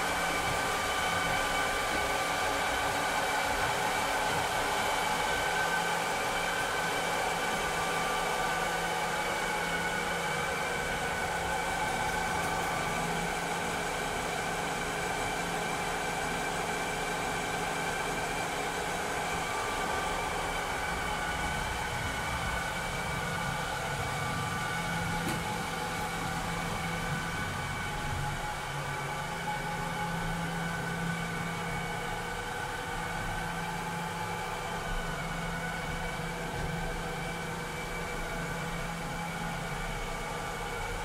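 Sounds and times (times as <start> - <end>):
robotic vacuum cleaner running: 0.0 - 41.0.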